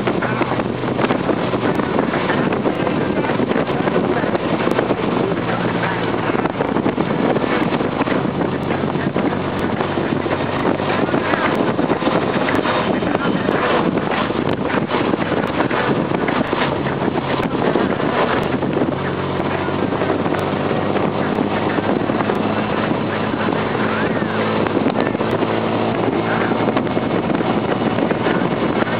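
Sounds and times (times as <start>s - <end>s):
car engine running steadily: 0.0s - 28.9s
wind over microphone: 0.0s - 28.9s.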